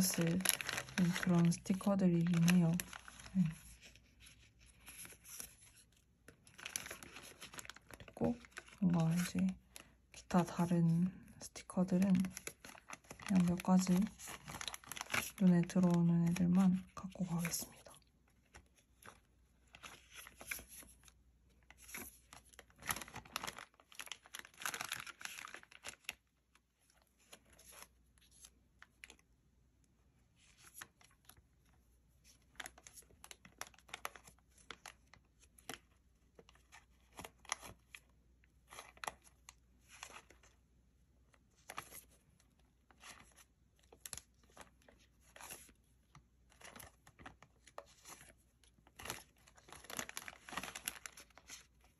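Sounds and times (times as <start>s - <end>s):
paper rustling and crinkling: 0.0s - 11.0s, 11.9s - 29.2s, 30.4s - 40.6s, 41.3s - 51.9s.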